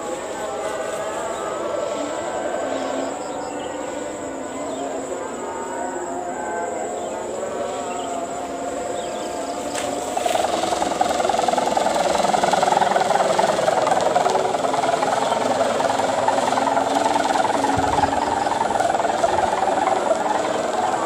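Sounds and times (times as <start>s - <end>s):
kite hummer droning in wind: 0.0s - 21.0s.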